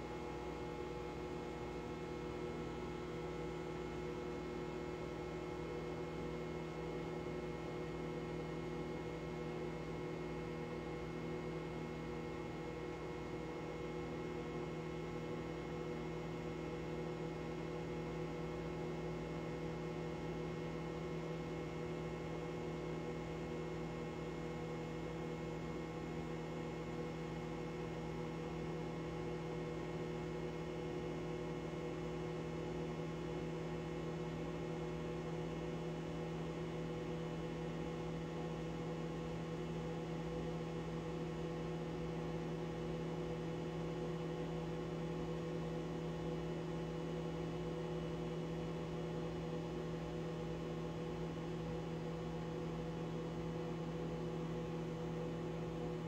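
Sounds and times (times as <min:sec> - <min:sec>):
microwave oven humming: 0:00.0 - 0:56.0.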